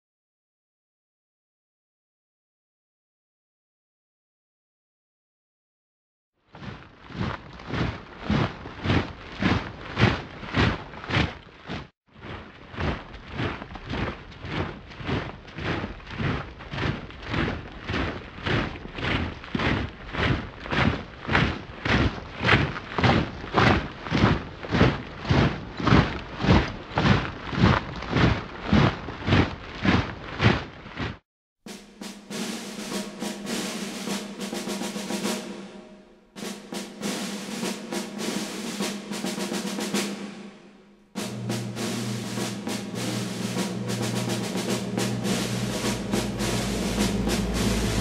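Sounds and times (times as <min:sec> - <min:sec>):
soldiers marching in step: 0:06.6 - 0:48.0.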